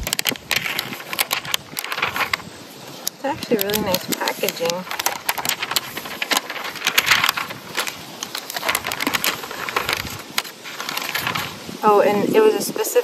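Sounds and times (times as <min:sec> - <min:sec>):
paper wrap rustling and crinkling: 0:00.0 - 0:12.0.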